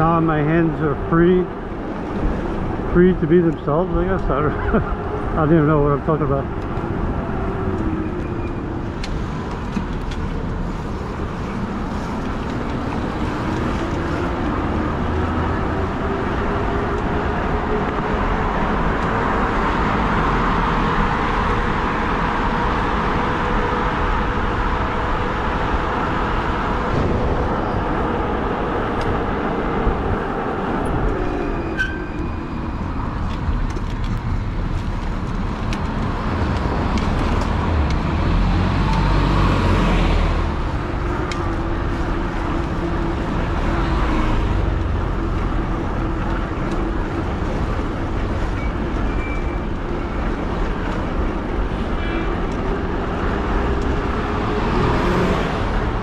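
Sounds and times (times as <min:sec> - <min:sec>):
passing cars: 0:00.0 - 0:56.0
tyres rushing on road: 0:00.0 - 0:56.0.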